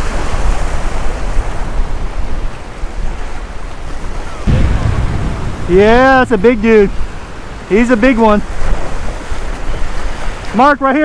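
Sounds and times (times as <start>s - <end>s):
wind rumbling on microphone: 0.0s - 10.4s
waves breaking on rocks: 0.0s - 11.0s.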